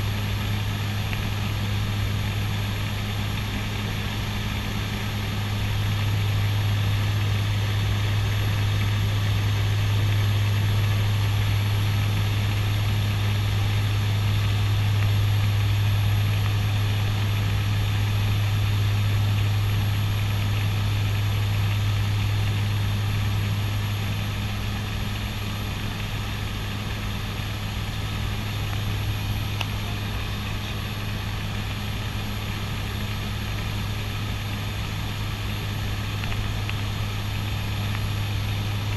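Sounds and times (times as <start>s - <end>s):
engine and airflow rush: 0.0s - 38.9s
propeller hum: 0.0s - 38.9s.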